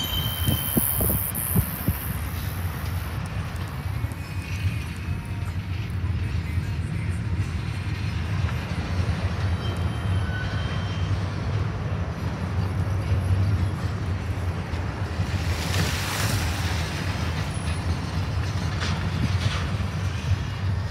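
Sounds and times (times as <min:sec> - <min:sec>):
freight train cars rumbling past: 0:00.0 - 0:20.9.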